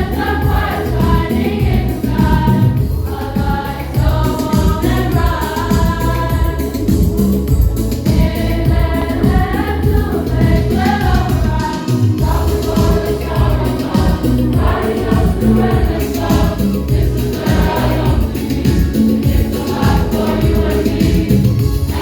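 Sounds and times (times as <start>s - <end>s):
backing music with steady beat: 0.0s - 22.0s
choir of young voices singing: 0.0s - 22.0s.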